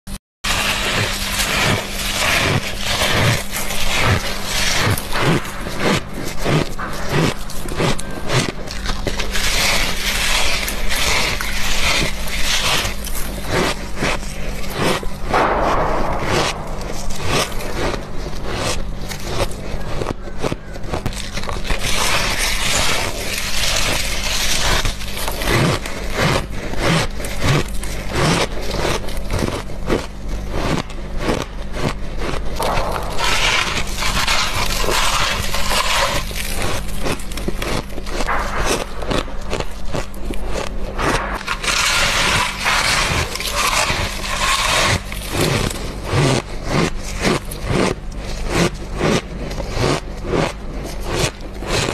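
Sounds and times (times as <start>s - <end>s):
frost being chewed crunching: 0.5s - 51.9s.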